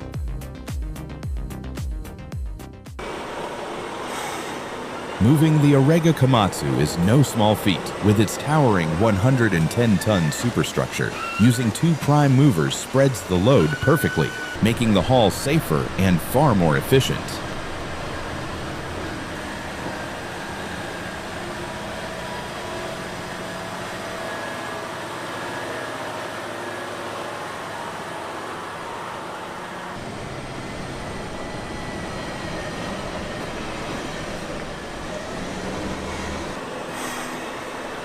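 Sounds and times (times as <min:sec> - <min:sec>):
road noise: 0:03.0 - 0:38.0
truck engines droning: 0:03.0 - 0:38.0.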